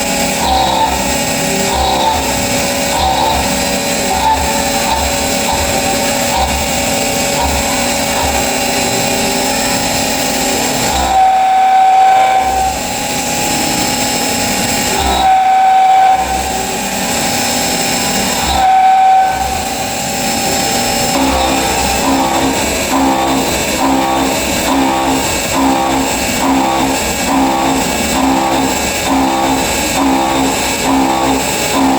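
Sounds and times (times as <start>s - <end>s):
milling machine cutting metal: 0.0s - 31.9s.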